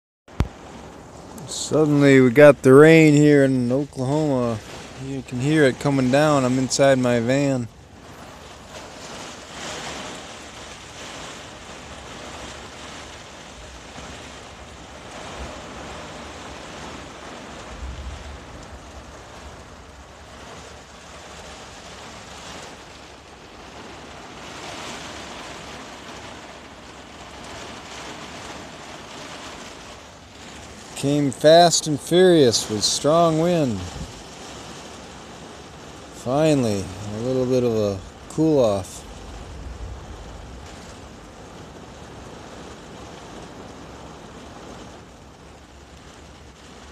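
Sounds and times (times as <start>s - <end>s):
heavy rain on a camper van: 0.3s - 46.9s
strong wind: 0.3s - 46.9s.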